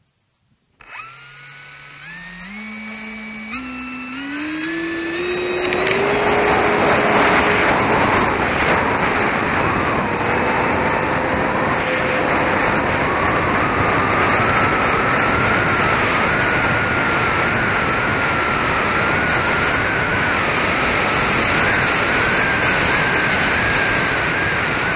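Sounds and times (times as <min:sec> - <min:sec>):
model plane electric motor whine: 0:00.8 - 0:24.9.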